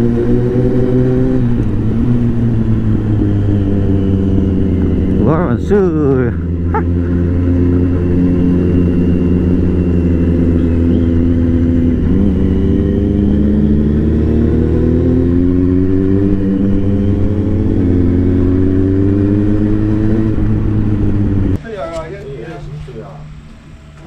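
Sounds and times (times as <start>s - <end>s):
motorcycle engine under throttle: 0.0s - 21.6s.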